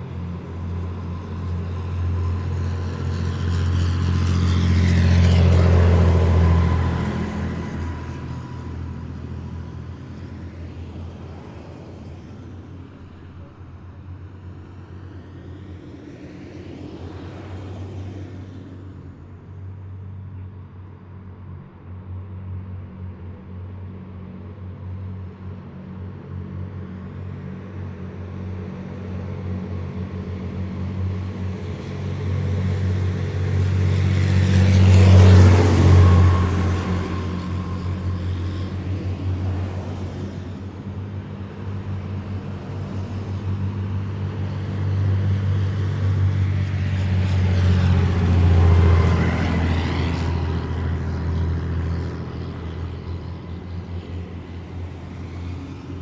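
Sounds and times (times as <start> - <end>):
heavy vehicles driving past: 0.0 - 20.8, 21.4 - 56.0.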